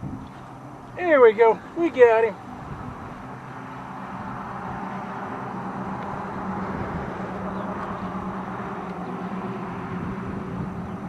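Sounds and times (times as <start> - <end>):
engine drone: 0.0 - 11.0
rushing noise: 0.0 - 11.0.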